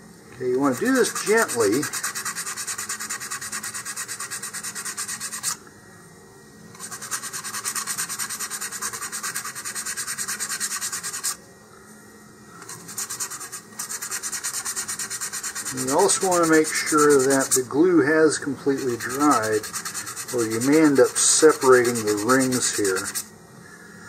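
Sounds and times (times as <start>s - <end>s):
sandpaper rubbing cardboard: 0.6s - 5.6s, 6.8s - 11.4s, 12.7s - 17.8s, 18.6s - 23.3s.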